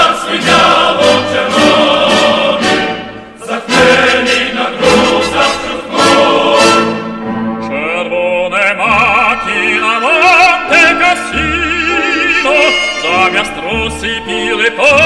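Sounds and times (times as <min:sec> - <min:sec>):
instrumental accompaniment: 0:00.0 - 0:15.0
operatic singing voice: 0:00.0 - 0:15.0.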